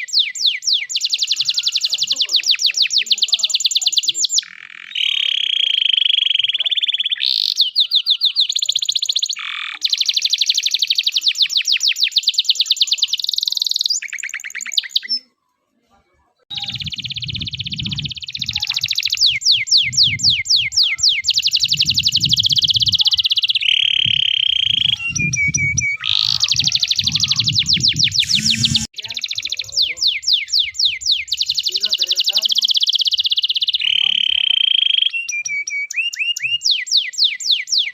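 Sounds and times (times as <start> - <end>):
canary singing trills: 0.0 - 15.4, 16.5 - 37.9.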